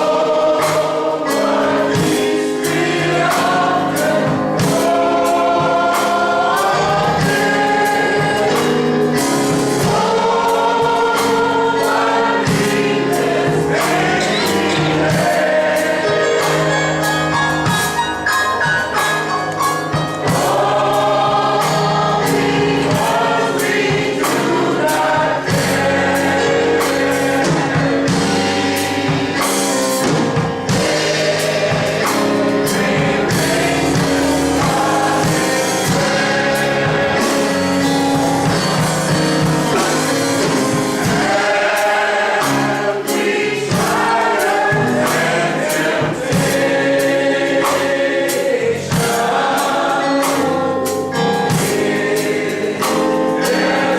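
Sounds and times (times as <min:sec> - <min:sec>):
gospel choir singing: 0:00.0 - 0:53.9
instrumental accompaniment with beat: 0:00.0 - 0:53.9.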